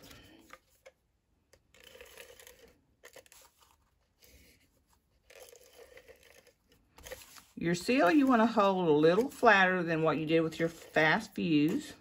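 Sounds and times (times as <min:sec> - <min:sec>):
tape runner rustling: 0:00.0 - 0:12.0
paper shifting: 0:01.7 - 0:12.0.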